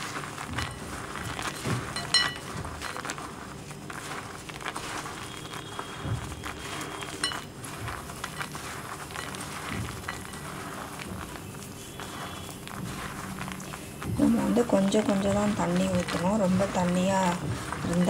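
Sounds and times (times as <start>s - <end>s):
peanuts clicking against bowl: 0.0s - 18.0s
peanuts rustling in flour: 0.0s - 18.0s.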